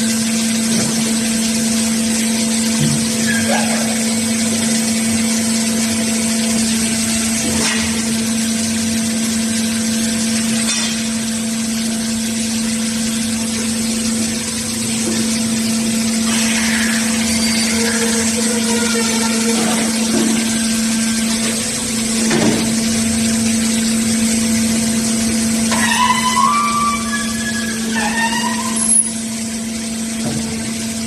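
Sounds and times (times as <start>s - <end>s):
drill rig machine hum: 0.0s - 31.0s.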